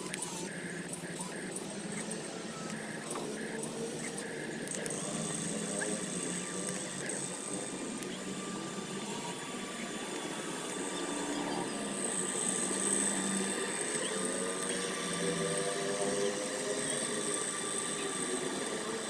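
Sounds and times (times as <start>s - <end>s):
small electric motors whirring: 0.0s - 19.0s.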